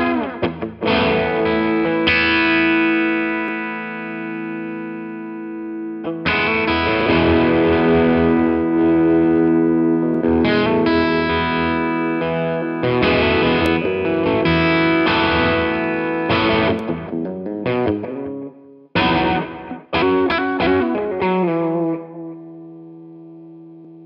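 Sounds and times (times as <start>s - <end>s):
overdriven electric guitar chords: 0.0s - 24.0s.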